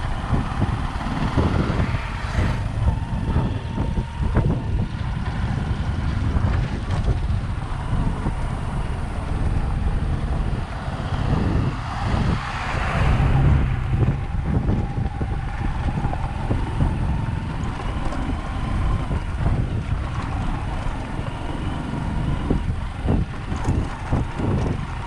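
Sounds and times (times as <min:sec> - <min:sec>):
bus passing: 0:00.0 - 0:25.0
vehicle rumbling on dirt road: 0:00.0 - 0:25.0
wind rushing over microphone: 0:00.0 - 0:25.0.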